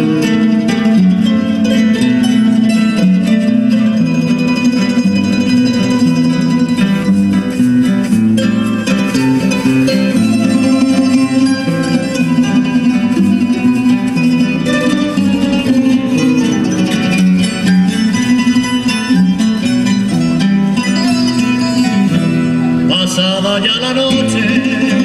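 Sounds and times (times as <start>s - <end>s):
plucked string ensemble folk music: 0.0s - 25.0s.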